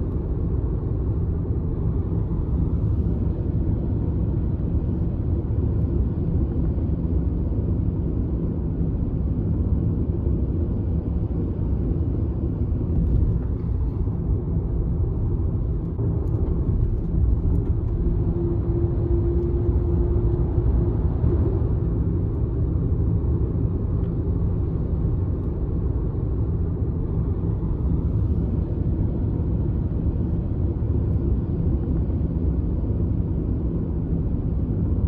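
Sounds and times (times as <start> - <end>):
moving vehicle rumble: 0.0 - 35.0.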